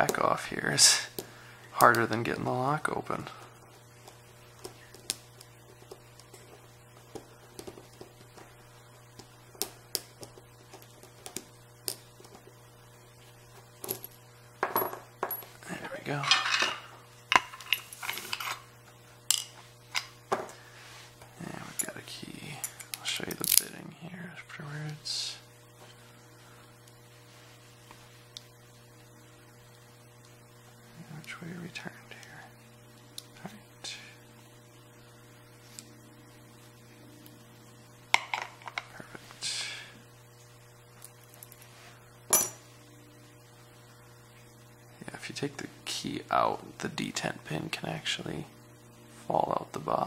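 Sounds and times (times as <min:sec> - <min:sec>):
faint electrical hum: 0:00.0 - 0:50.0.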